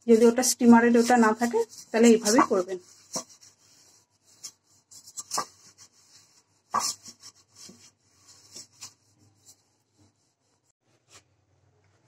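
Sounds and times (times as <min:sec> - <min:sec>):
fingers rubbing oil on steel: 0:00.2 - 0:10.6.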